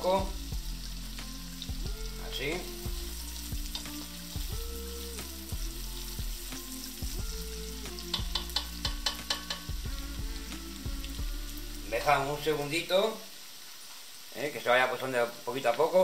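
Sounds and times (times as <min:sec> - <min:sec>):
onion sizzling in a pan: 0:00.0 - 0:16.0.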